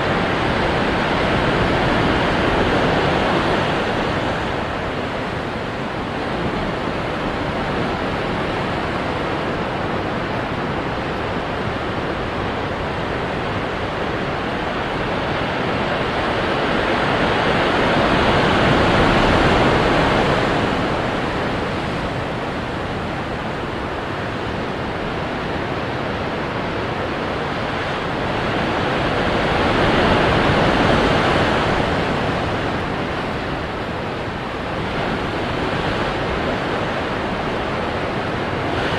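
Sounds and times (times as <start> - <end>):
ocean waves crashing on rocks: 0.0 - 38.9.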